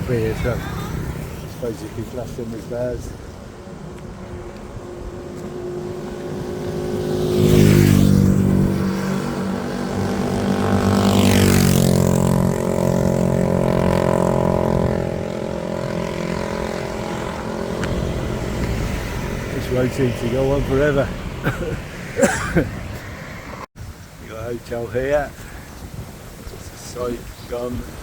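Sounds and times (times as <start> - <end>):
engine running steadily: 0.0 - 22.6
vehicles passing by: 0.0 - 28.0.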